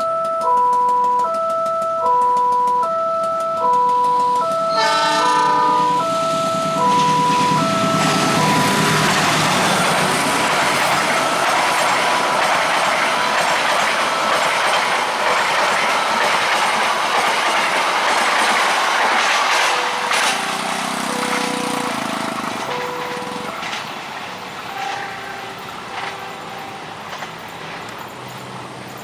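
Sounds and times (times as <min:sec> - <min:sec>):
level crossing warning chime: 0:00.0 - 0:26.8
train wheels clacking on rails: 0:00.0 - 0:29.0.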